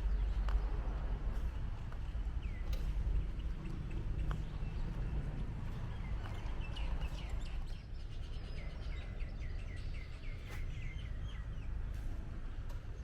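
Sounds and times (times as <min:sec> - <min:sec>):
songbird chirping: 0:00.0 - 0:12.0
steady low rumble: 0:00.0 - 0:13.0.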